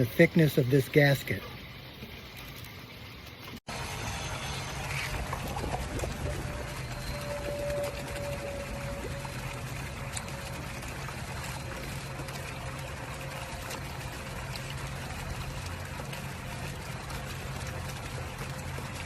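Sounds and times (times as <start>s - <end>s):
water pouring and trickling: 0.0s - 19.0s
low hum: 1.4s - 19.0s.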